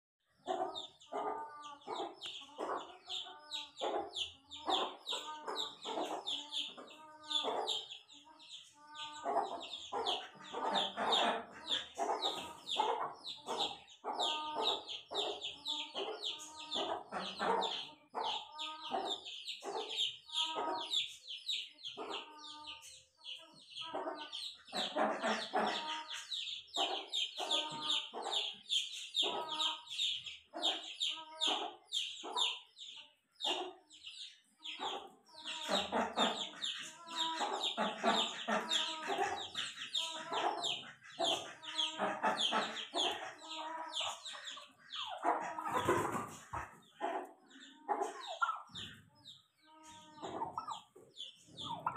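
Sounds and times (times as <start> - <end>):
chickens clucking: 0.3 - 51.9.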